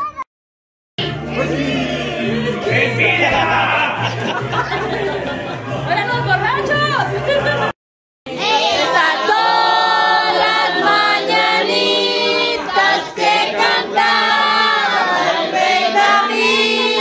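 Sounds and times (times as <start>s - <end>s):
voices singing together: 1.0s - 7.7s, 8.3s - 17.0s.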